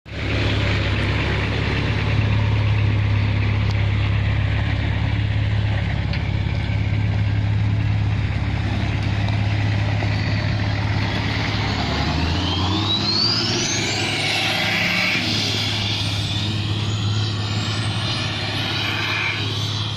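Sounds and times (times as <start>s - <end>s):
diesel engine running: 0.1s - 19.9s.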